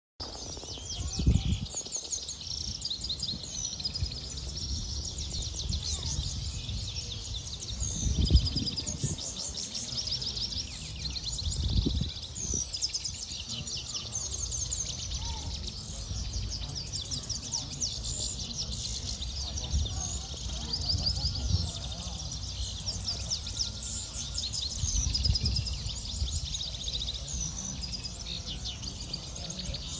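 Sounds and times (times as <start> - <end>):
finch singing: 0.2 - 29.9.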